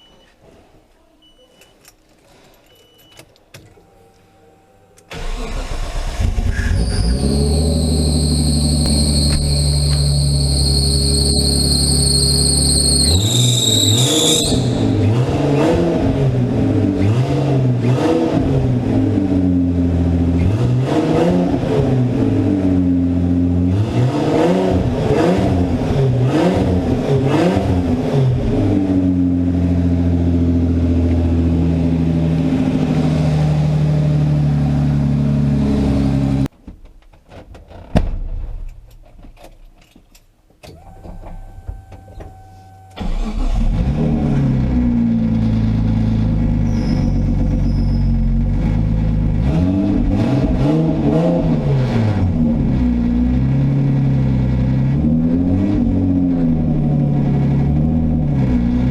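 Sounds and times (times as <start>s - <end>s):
car engine revving: 5.1s - 36.5s, 40.8s - 58.9s.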